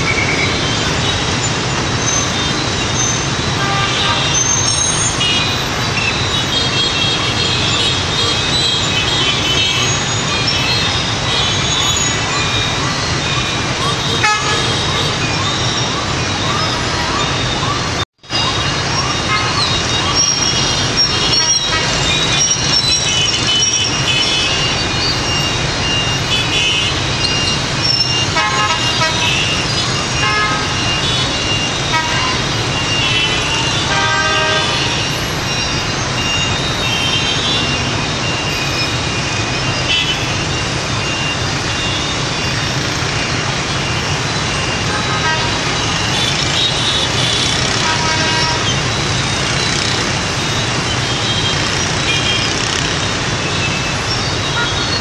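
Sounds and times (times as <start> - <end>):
motorbike and car traffic: 0.0 - 55.0
vehicle horns beeping: 2.0 - 5.7, 6.3 - 16.0, 18.5 - 53.0, 54.1 - 55.0.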